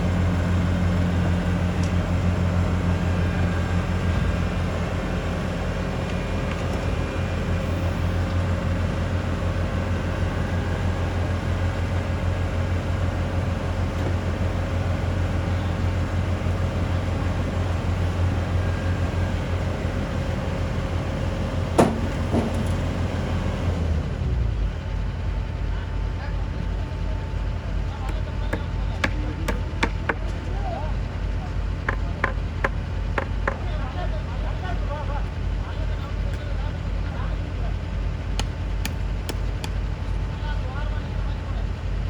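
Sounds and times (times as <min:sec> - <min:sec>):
engine droning: 0:00.0 - 0:42.0.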